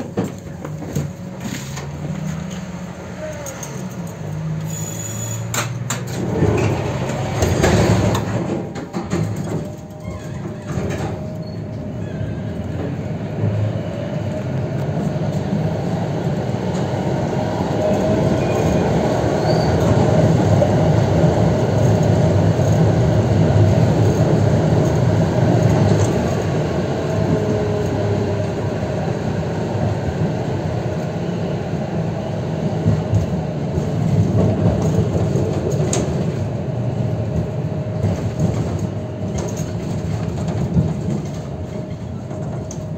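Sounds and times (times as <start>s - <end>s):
sharp clicks from rails: 0.0s - 11.5s, 14.2s - 28.6s, 32.8s - 42.9s
tram wheels rumbling on rails: 0.0s - 42.9s.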